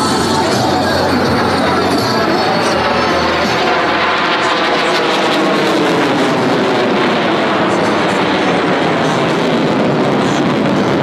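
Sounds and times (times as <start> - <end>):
fighter jet flying overhead: 0.0 - 11.0.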